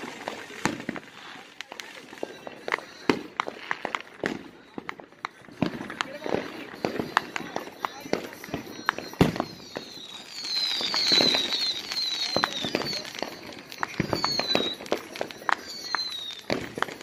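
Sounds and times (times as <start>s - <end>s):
firework pops and bangs: 0.0s - 17.0s
firework whistles: 0.0s - 17.0s.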